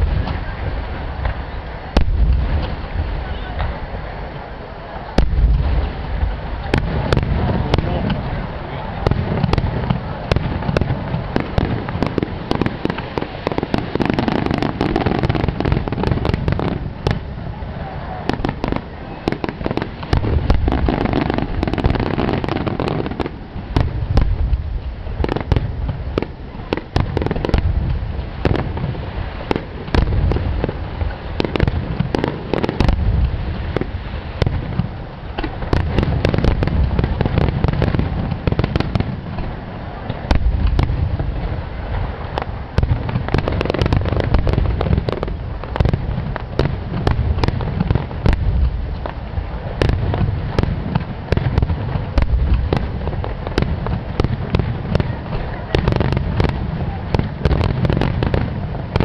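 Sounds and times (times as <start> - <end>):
deep fireworks booms: 0.0 - 59.0
fireworks crackling: 0.0 - 59.0.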